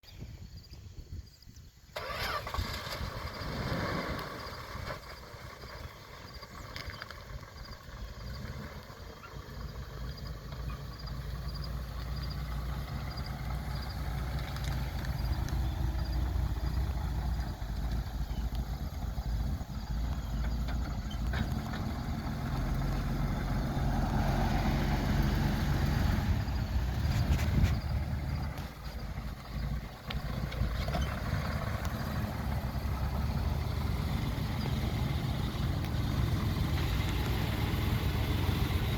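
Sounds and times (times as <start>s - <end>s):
pickup engine starting and idling: 1.9s - 38.9s.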